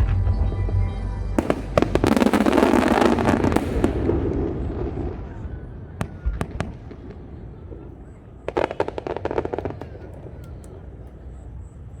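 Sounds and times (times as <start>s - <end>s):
fireworks pops: 1.4s - 11.4s
fireworks crackling: 1.4s - 12.0s.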